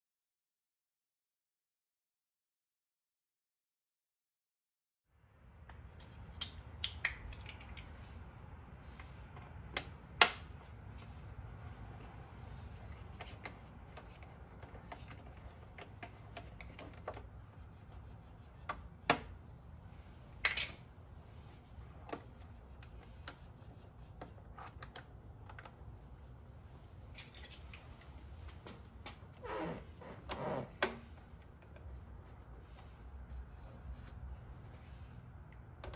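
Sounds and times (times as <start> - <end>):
low steady hum: 5.1 - 35.9.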